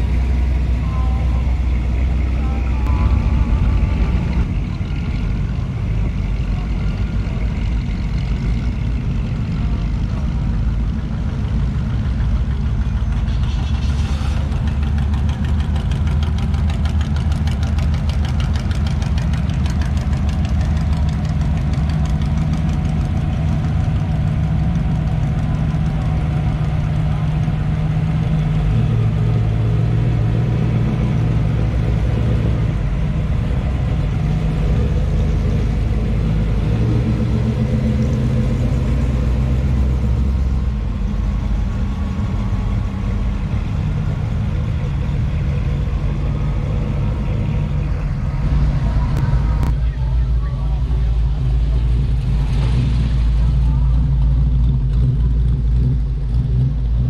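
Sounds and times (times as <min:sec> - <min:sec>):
deep car engines rolling past: 0:00.0 - 0:57.0
lower engine note: 0:00.0 - 0:57.0.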